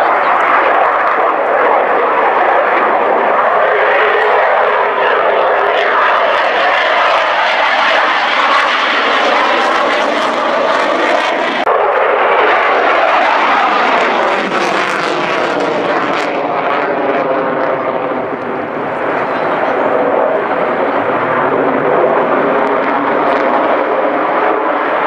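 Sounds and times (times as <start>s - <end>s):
fighter jet engine roar: 0.0s - 25.0s.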